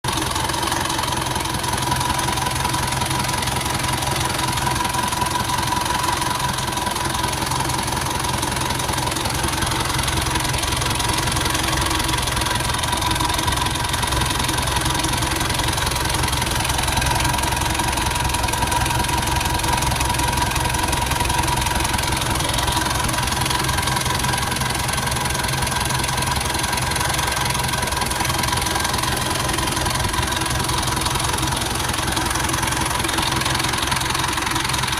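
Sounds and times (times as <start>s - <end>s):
engine idling roughly: 0.0s - 34.9s
constant whine: 0.1s - 34.9s.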